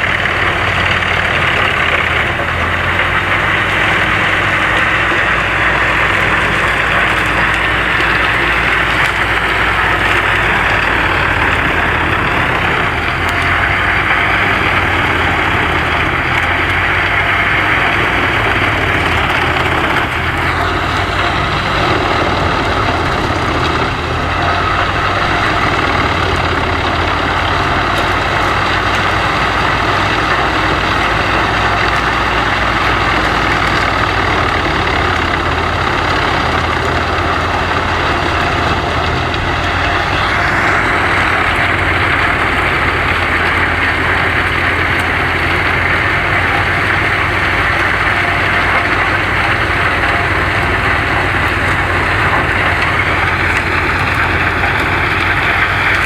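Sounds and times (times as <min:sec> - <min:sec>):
wood chipper running: 0:00.0 - 0:56.0.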